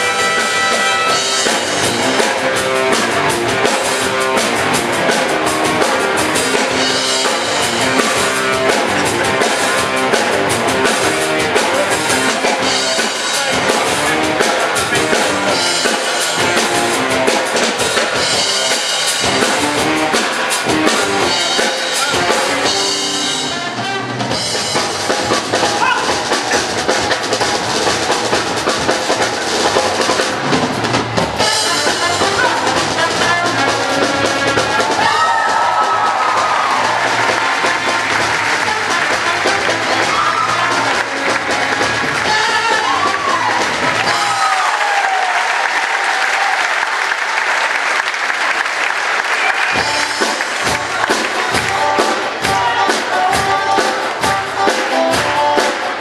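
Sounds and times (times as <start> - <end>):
steady drum beat: 0.0 - 48.0, 48.9 - 56.0
band playing up-tempo music: 0.0 - 56.0.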